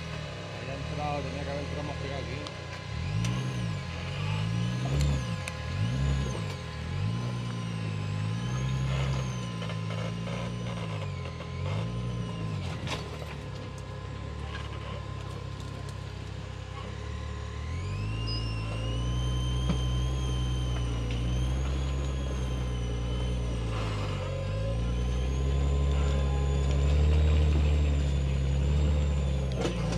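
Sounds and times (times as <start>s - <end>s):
buggy engine revving: 0.0s - 29.9s.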